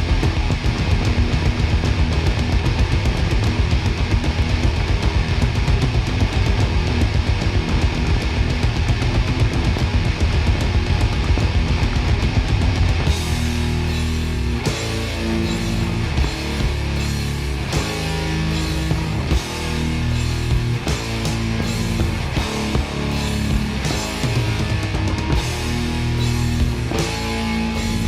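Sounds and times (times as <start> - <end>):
distorted electric guitars: 0.0 - 28.0
rapid drum hits: 0.0 - 28.0.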